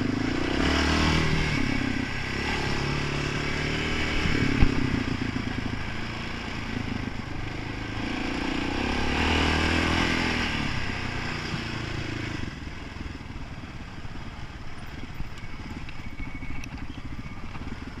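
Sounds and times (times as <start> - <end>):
quad bike engine: 0.0 - 18.0.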